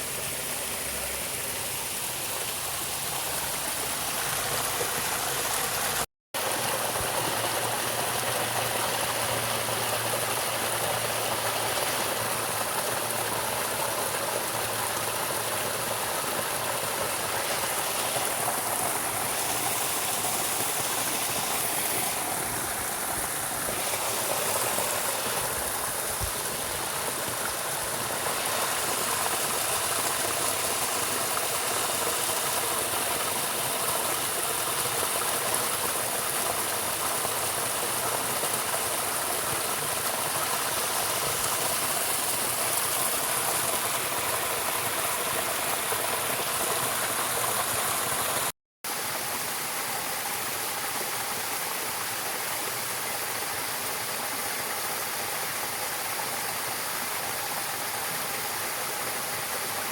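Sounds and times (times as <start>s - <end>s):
water rushing in a stream: 0.0s - 59.9s.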